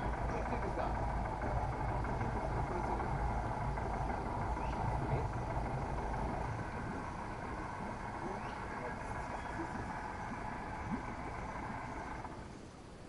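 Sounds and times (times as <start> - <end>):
frogs chorus: 0.0 - 12.6
low rumble: 0.0 - 12.6
insects chorus: 0.0 - 12.7.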